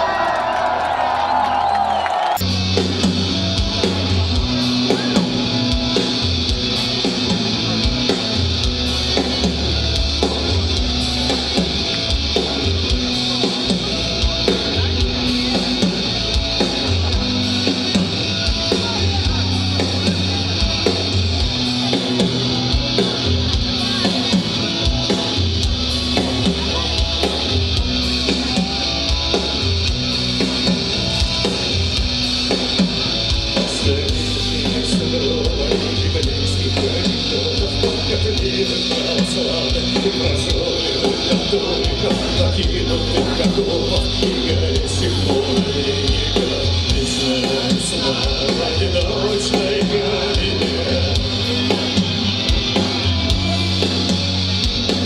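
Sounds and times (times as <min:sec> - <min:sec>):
rock band through pa system: 0:00.0 - 0:55.0.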